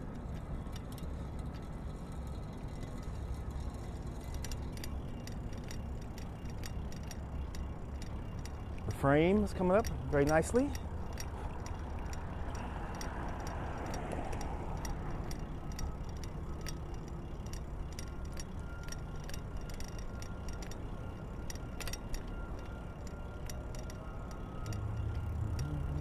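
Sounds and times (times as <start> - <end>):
light ticks and clicks: 0.0 - 26.0.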